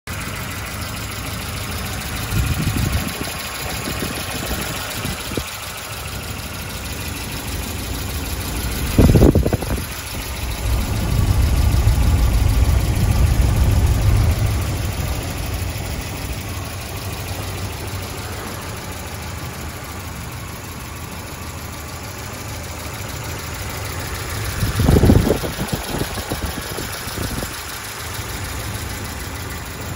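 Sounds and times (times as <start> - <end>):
car engine idling: 0.1 - 29.9.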